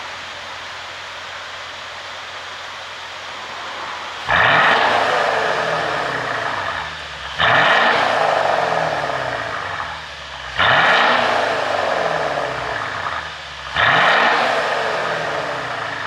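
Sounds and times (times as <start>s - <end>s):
car engine revving from idle: 0.0s - 16.0s.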